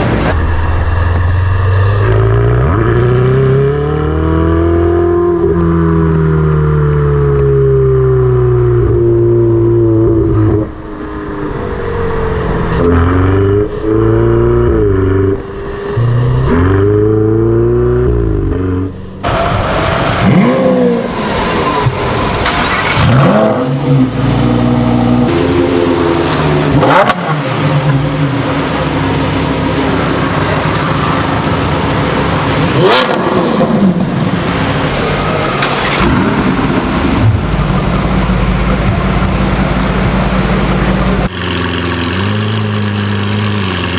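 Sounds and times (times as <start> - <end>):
car engines revving hard: 0.0 - 43.9.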